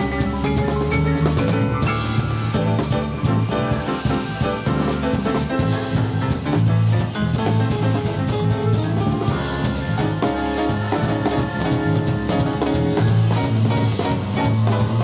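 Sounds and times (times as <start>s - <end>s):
bass line: 0.0s - 15.0s
drum kit with cymbals: 0.0s - 15.0s
piano: 0.0s - 15.0s.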